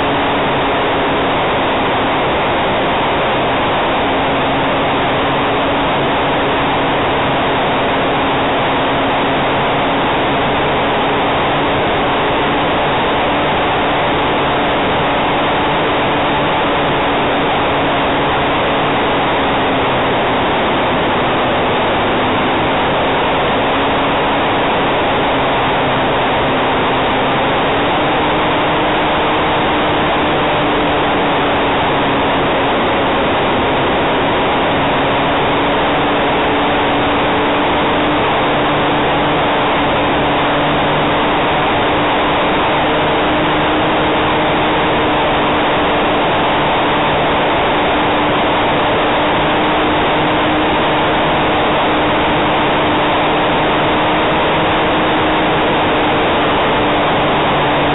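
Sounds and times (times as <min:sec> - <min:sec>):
airflow and propeller noise: 0:00.0 - 0:57.9.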